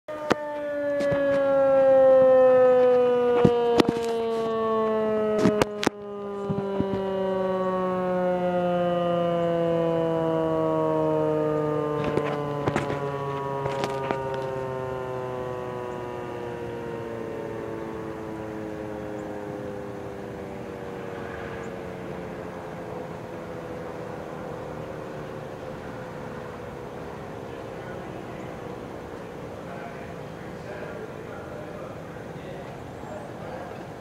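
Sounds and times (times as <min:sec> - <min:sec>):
warning sirens winding down: 0:00.0 - 0:34.0.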